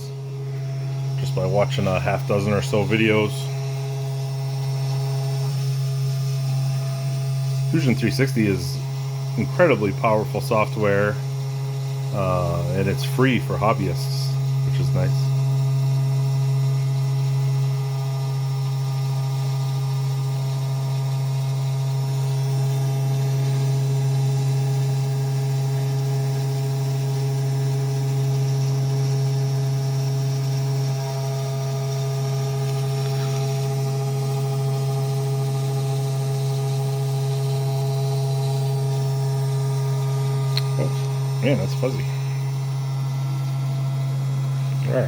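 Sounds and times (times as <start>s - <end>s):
engraver motor humming and whining: 0.0s - 45.0s.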